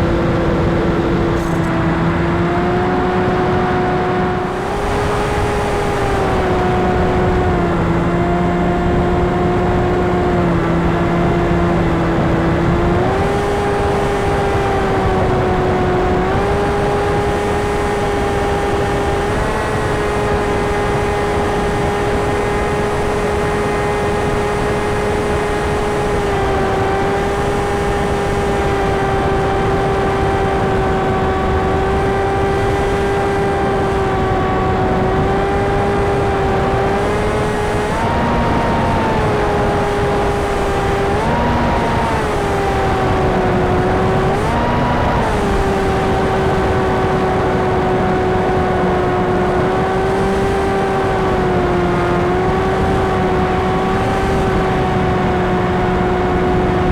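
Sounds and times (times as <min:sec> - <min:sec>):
electric motor and propeller whine: 0:00.0 - 0:56.9.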